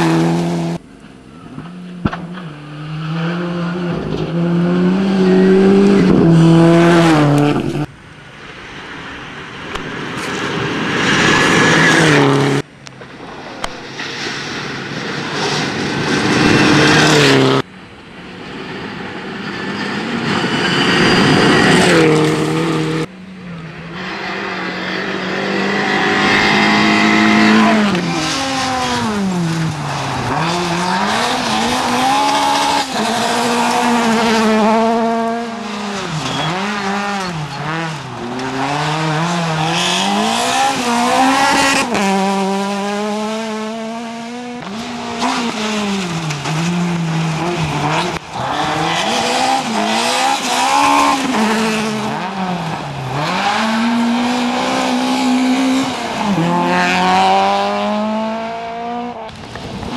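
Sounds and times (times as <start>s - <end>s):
rally car engines revving: 0.0s - 8.0s, 8.6s - 59.9s.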